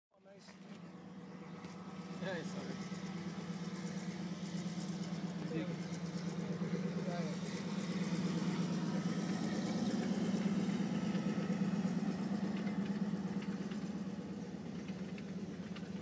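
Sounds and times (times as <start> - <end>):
low engine drone: 0.4 - 16.0.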